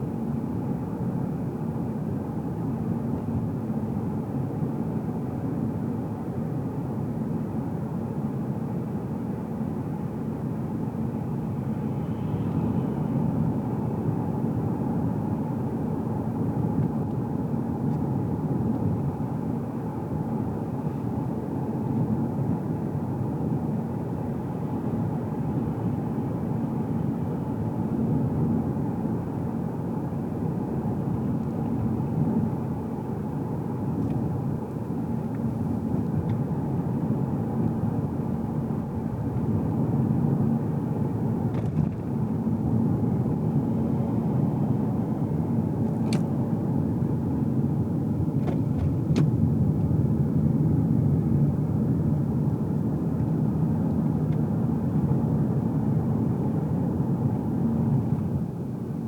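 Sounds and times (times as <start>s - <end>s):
car engine and tyre road noise: 0.0s - 59.0s.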